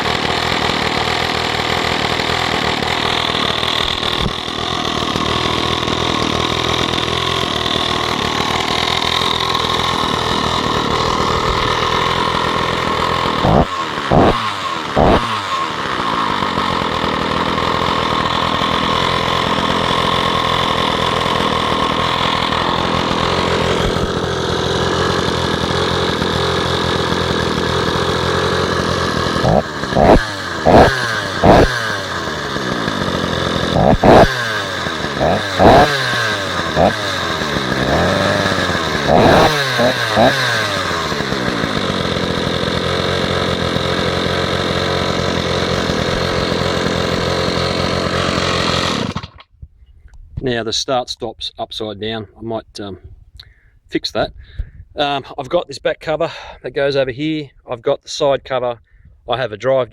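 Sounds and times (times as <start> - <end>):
chainsaw engine idling and revving: 0.0 - 49.6.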